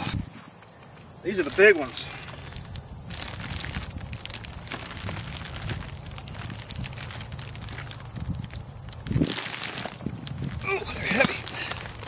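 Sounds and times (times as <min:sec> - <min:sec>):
plastic bag crinkling: 0:01.3 - 0:12.0.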